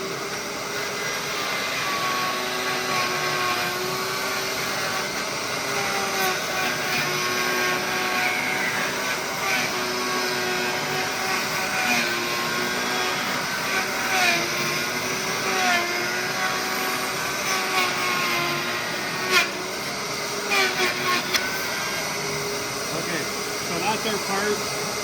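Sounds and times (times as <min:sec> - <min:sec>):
router motor whining: 0:00.0 - 0:25.0.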